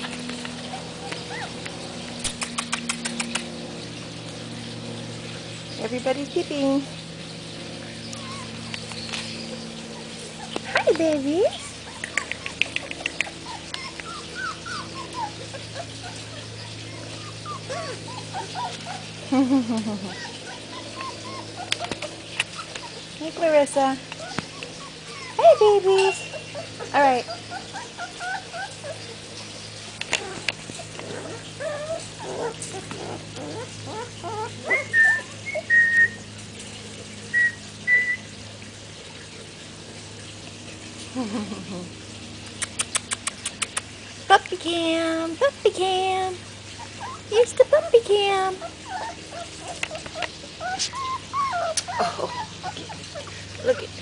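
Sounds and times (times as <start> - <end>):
puppies whimpering and yipping: 0.0 - 5.0, 7.4 - 39.4, 46.2 - 54.0
steady low hum: 0.0 - 54.0.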